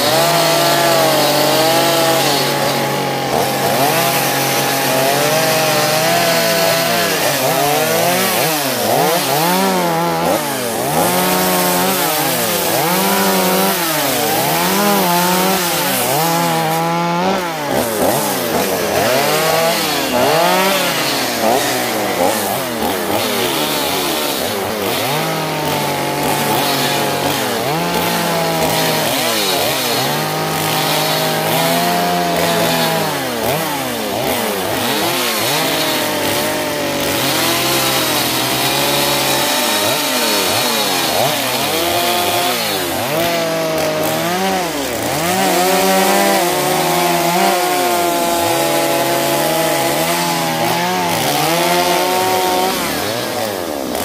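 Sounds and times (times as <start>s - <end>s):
chainsaw revving cutting wood: 0.0s - 54.0s.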